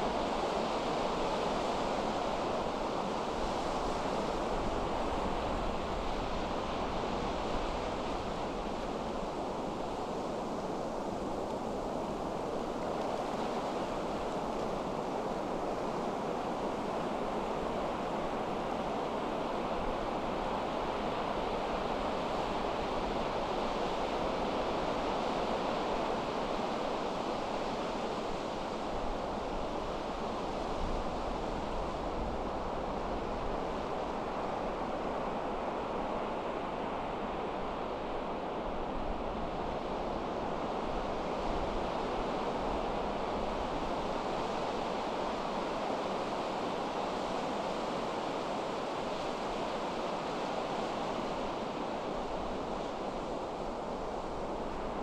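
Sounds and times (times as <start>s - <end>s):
surf waves washing on beach: 0.0s - 55.0s.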